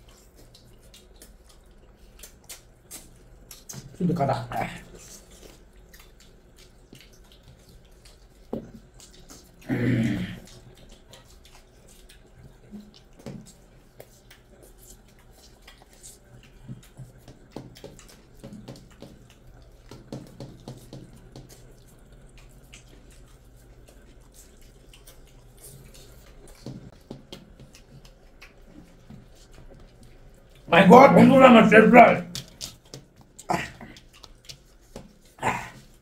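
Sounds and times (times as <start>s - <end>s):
chewing: 0.0s - 36.0s
hands kneading food wetly: 0.0s - 36.0s.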